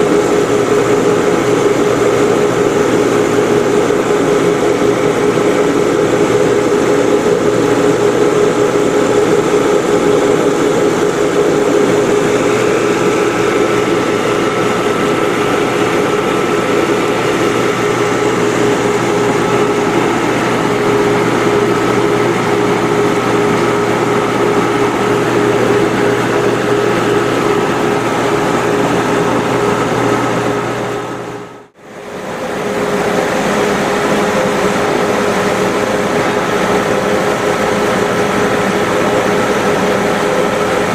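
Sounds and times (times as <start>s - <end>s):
grinding machine humming: 0.0s - 40.9s.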